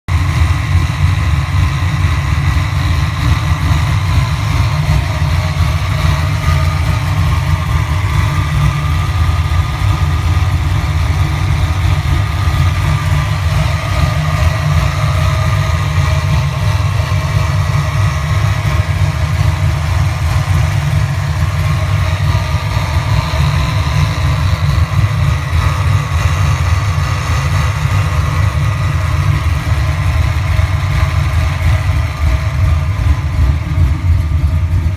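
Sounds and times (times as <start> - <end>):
car engine idling: 0.0 - 34.9
supercharger whine: 0.1 - 34.9.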